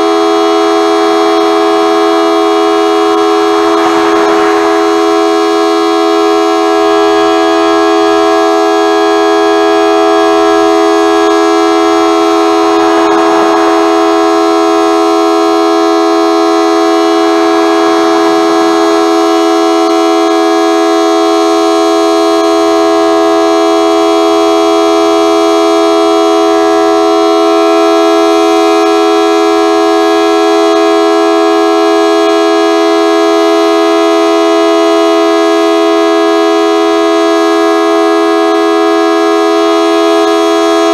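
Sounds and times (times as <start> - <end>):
dual-tone warning siren: 0.0 - 40.9.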